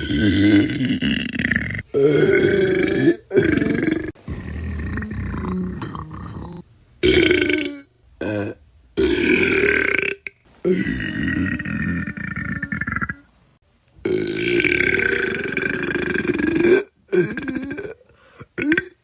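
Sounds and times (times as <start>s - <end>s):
person burping: 0.0s - 13.3s, 14.0s - 19.0s.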